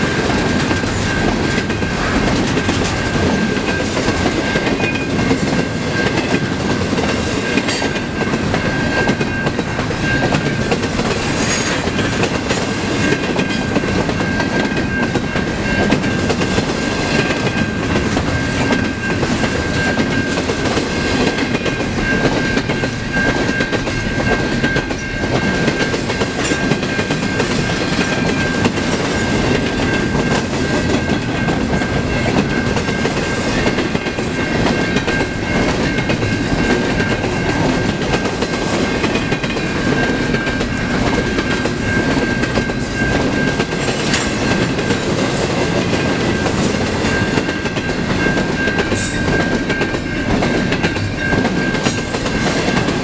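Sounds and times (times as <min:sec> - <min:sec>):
freight train wheels clattering: 0:00.0 - 0:53.0
level-crossing bell ringing: 0:07.4 - 0:45.2, 0:45.8 - 0:53.0.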